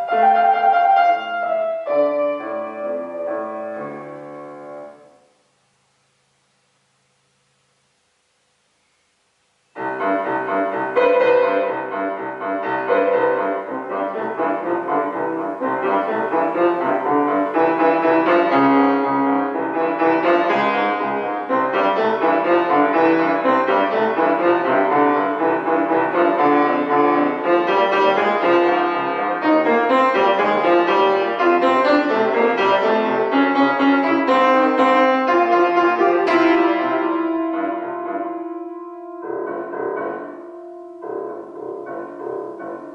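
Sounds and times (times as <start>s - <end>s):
solo grand piano piece: 0.0s - 6.4s, 8.7s - 42.9s.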